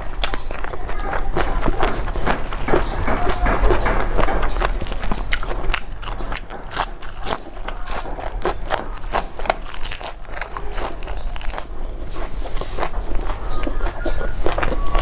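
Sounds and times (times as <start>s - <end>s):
crunching and chewing: 0.0s - 15.0s
mouth sounds: 0.0s - 15.0s.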